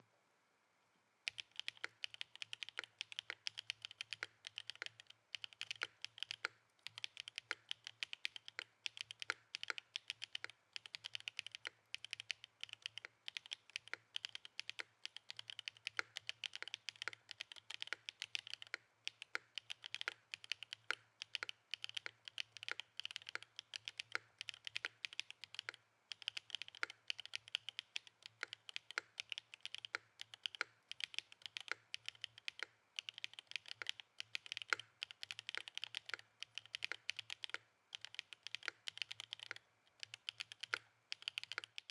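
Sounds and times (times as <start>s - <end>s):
mechanical keyboard typing: 1.3s - 41.9s.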